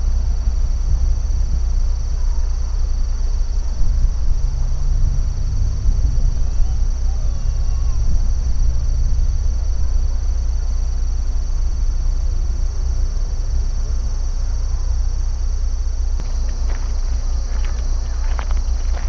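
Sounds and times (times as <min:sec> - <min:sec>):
insects trilling: 0:00.0 - 0:19.0
low rumble: 0:00.0 - 0:19.0.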